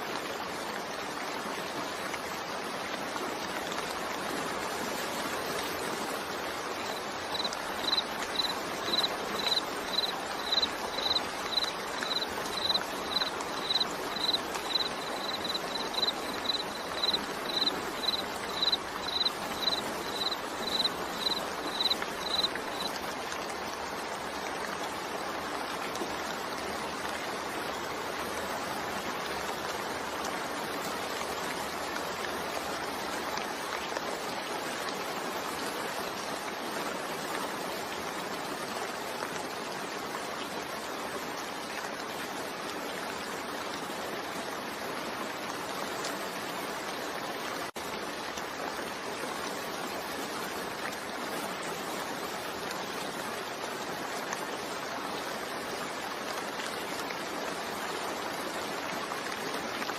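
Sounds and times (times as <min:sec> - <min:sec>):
rain: 0:00.0 - 0:59.9.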